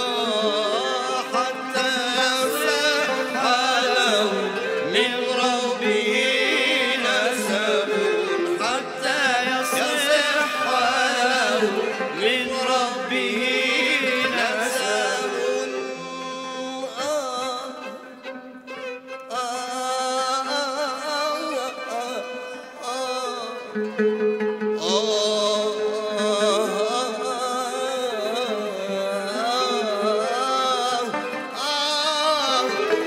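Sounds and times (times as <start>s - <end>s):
violin qanun and oud ensemble: 0.0s - 33.0s.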